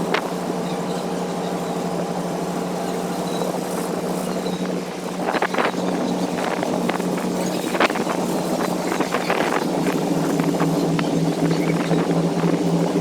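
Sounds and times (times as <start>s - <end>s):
ferry engines droning: 0.0s - 13.0s
wind buffeting microphone: 0.0s - 13.0s.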